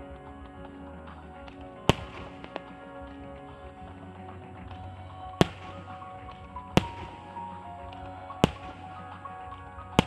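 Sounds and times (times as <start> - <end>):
steady music: 0.0 - 10.0.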